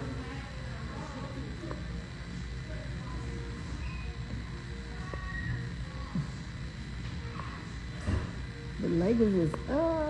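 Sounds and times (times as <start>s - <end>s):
faint background music: 0.0s - 10.0s
low room rumble: 0.0s - 10.0s.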